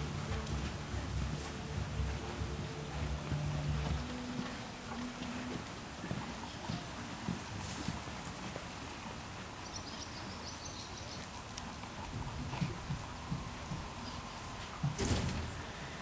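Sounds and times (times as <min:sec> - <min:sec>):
hoofbeats on dirt: 0:00.0 - 0:16.0
steady background hiss: 0:00.0 - 0:16.0.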